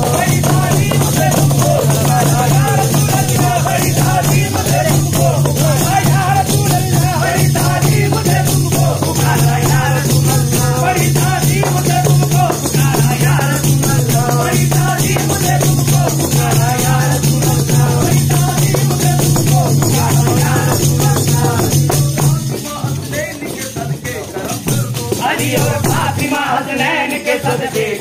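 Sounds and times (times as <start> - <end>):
shaker-like rattling rhythm: 0.0 - 28.0
voices singing: 0.0 - 28.0.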